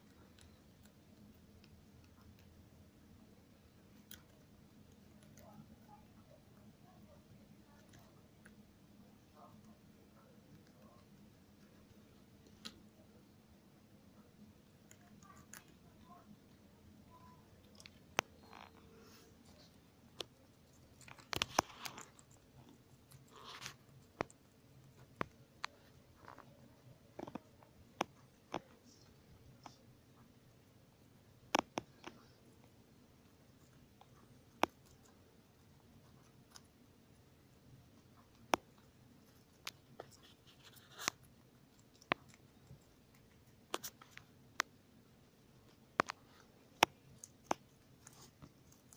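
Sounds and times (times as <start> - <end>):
guinea pigs chewing lettuce: 0.0 - 48.9.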